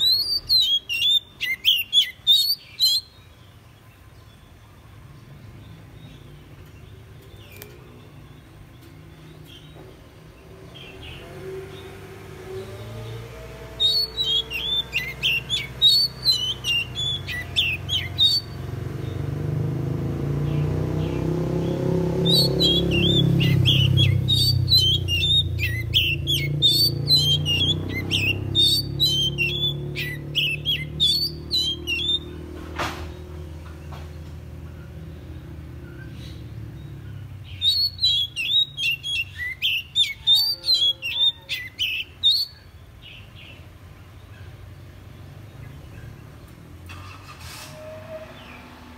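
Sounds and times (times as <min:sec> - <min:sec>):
bird singing chirps and whistles: 0:00.0 - 0:19.2, 0:20.4 - 0:32.5, 0:35.2 - 0:43.6.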